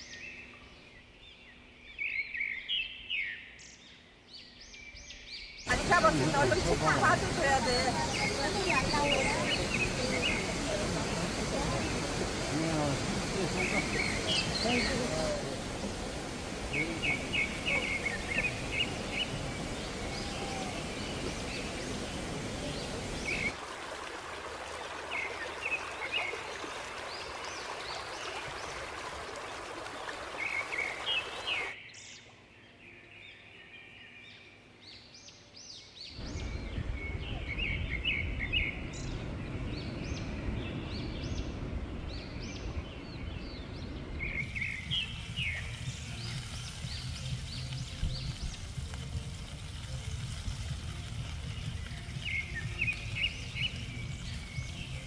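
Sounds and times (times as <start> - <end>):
small birds chirping: 0.0 - 23.6, 24.8 - 55.0
steady outdoor rushing noise: 5.7 - 31.8, 36.2 - 55.0.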